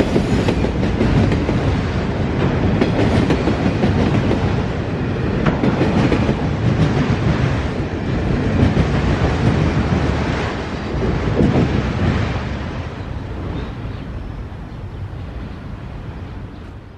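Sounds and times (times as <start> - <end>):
freight train wheels rumbling and clacking: 0.0 - 16.9.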